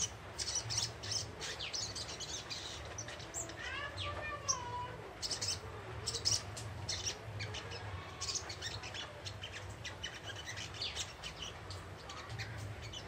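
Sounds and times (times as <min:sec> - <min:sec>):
bird chirping and twittering: 0:00.0 - 0:13.0.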